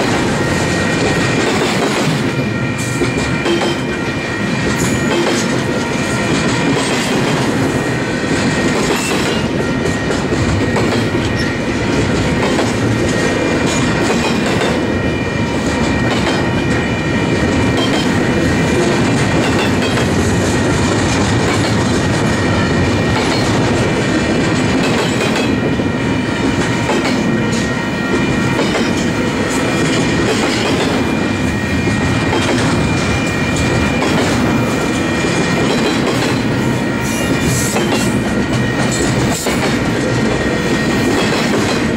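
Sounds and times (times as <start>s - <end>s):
steel wheels rumbling on rail: 0.0s - 41.9s.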